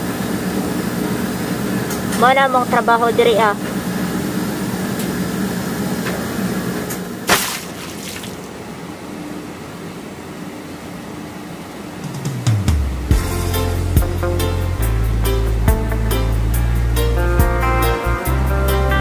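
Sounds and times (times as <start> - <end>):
washing machines and dryers humming: 0.0 - 19.0.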